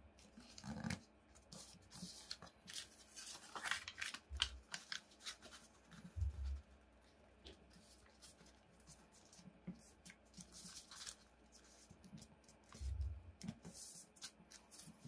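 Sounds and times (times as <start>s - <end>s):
paper rustling and crinkling: 0.2s - 6.7s, 7.5s - 15.0s.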